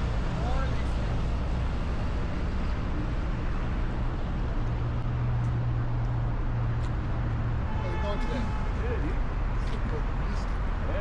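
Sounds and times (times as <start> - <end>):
rushing road noise: 0.0 - 11.0.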